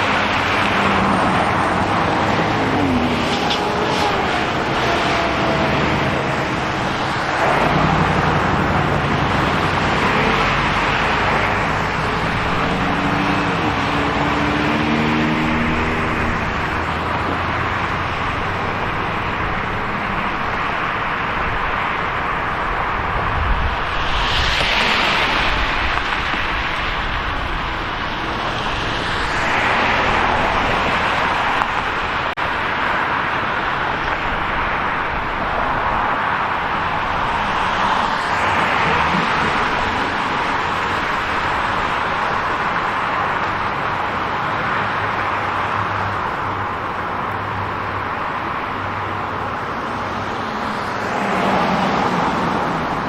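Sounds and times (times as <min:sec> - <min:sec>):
cars passing: 0:00.0 - 0:53.0
road noise: 0:00.0 - 0:53.0.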